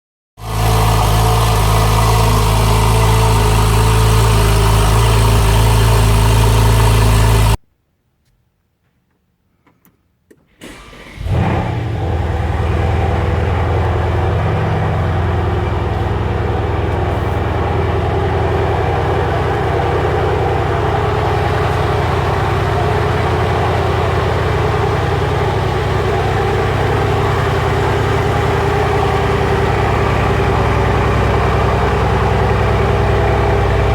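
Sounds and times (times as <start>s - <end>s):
engine cold start and idle: 0.4s - 7.6s, 10.3s - 33.9s
sports car engine running: 0.4s - 7.6s, 11.2s - 33.9s.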